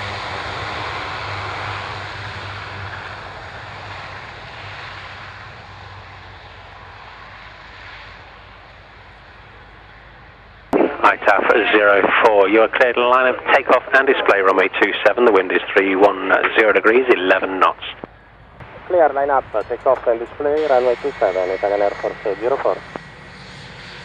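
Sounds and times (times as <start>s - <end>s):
aircraft engines drone: 0.0s - 24.0s.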